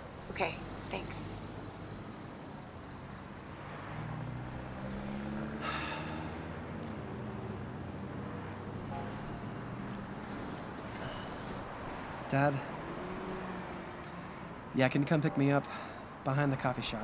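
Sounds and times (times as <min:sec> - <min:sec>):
vehicle passing: 0:00.0 - 0:16.6
road traffic rumble: 0:00.0 - 0:17.0.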